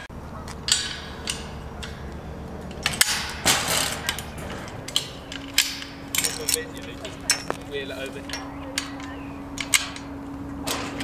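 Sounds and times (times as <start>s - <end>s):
wire trolley frames clattering: 0.0s - 11.0s
trolley coin lock clicking: 0.6s - 11.0s.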